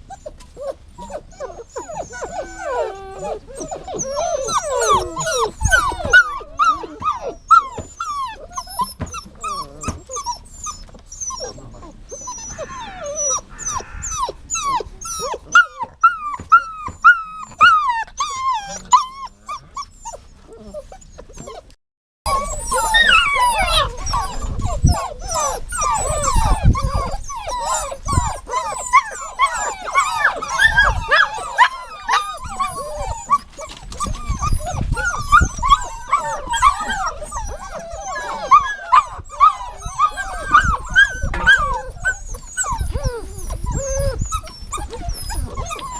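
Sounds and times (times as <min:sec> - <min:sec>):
dogs whining: 0:00.0 - 0:45.9.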